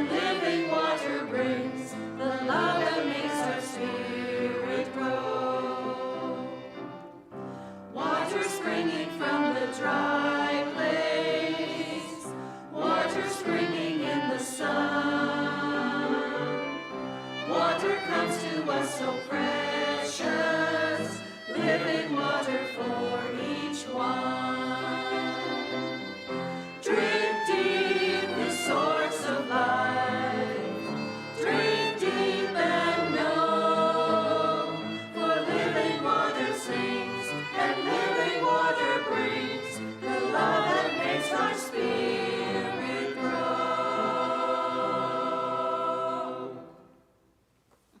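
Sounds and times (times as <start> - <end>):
church choir singing in harmony: 0.0 - 47.1.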